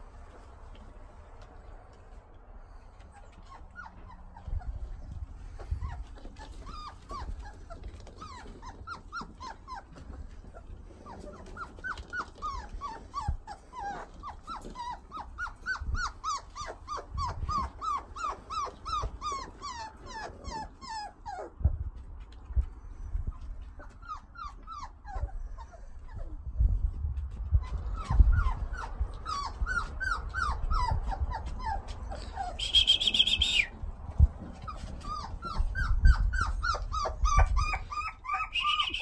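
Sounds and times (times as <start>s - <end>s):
puppies yipping and whining: 0.0s - 39.0s
puppies growling: 1.1s - 21.7s, 27.5s - 39.0s.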